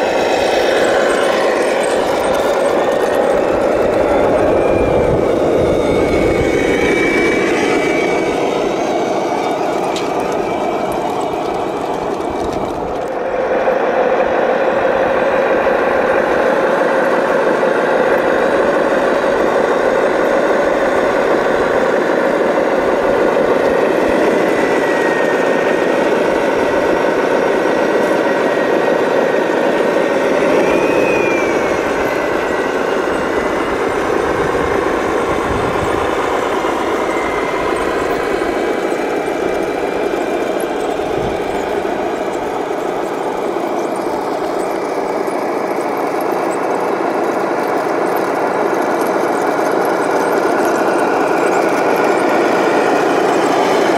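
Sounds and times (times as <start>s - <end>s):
model truck engine drone: 0.0s - 53.9s
thin motor whine: 0.0s - 53.9s.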